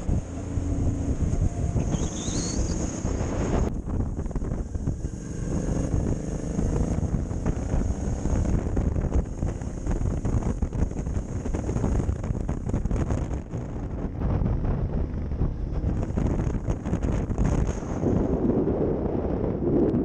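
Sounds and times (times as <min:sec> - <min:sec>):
motorcycle engine running: 0:00.0 - 0:18.3
wind buffeting microphone: 0:00.0 - 0:20.0.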